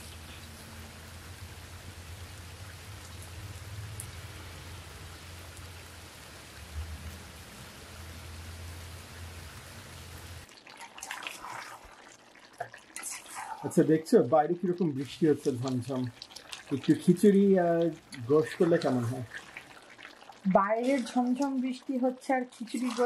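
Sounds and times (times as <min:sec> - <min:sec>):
rain on concrete: 0:00.0 - 0:23.0.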